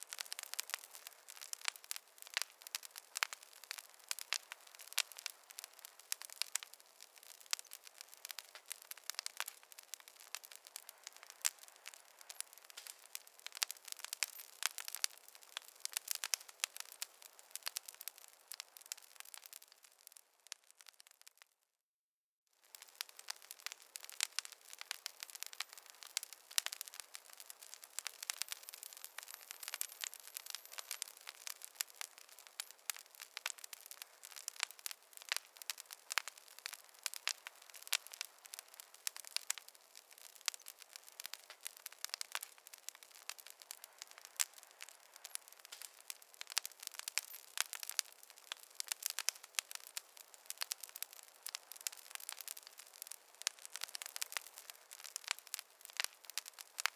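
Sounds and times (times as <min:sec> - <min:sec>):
campfire crackling: 0:00.0 - 0:21.5, 0:22.6 - 0:56.9.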